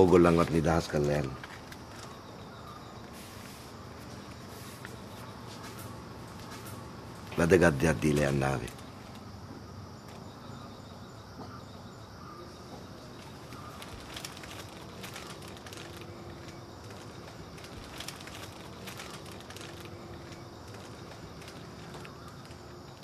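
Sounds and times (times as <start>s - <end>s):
high insect hum: 0.0s - 23.0s.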